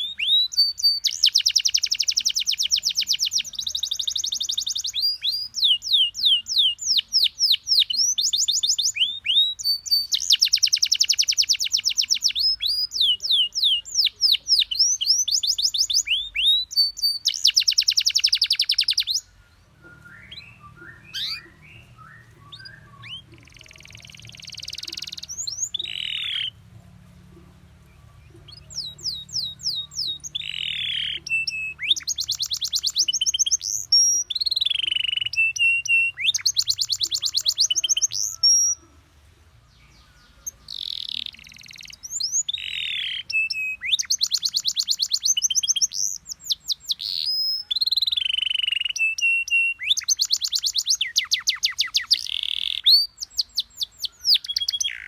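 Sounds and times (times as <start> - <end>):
canary trilling: 0.0 - 39.0, 40.0 - 55.0
soft canary chirps: 0.0 - 55.0.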